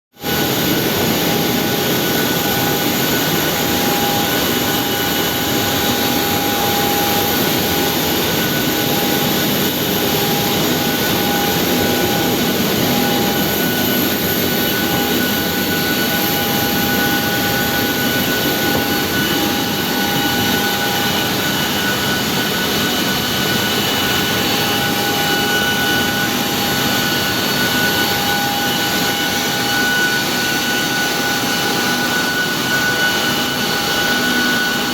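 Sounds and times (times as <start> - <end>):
jet engines running: 0.2 - 34.9.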